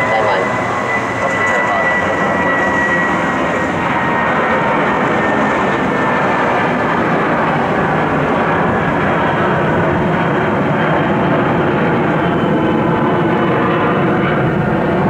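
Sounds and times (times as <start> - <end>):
jet airliner engines rushing: 0.0 - 15.0.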